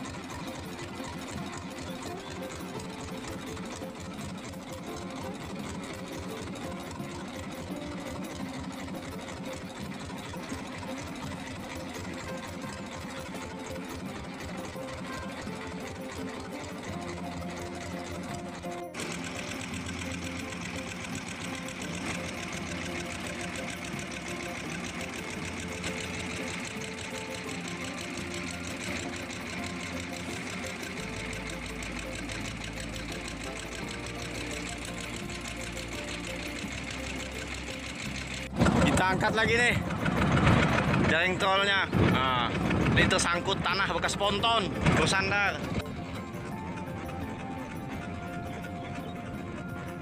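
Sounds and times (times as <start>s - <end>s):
boat engine running: 0.0s - 50.0s.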